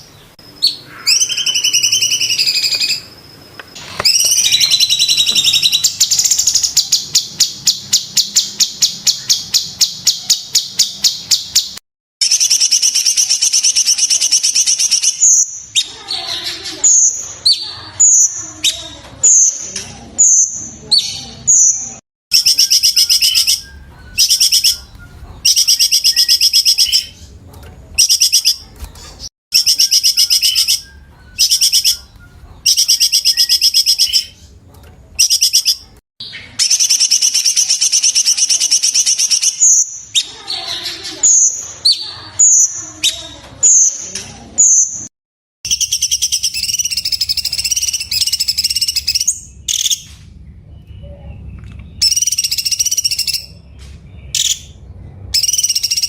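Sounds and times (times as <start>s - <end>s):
bird singing rapid trills: 0.0s - 19.6s, 20.2s - 27.4s, 28.0s - 28.7s, 29.5s - 34.6s, 35.2s - 44.0s, 45.7s - 56.0s.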